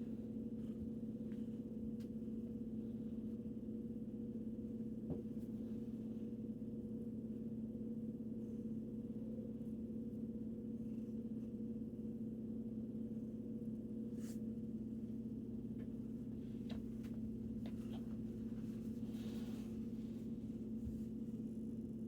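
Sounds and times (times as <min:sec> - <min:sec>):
steady low motor hum: 0:00.0 - 0:22.0.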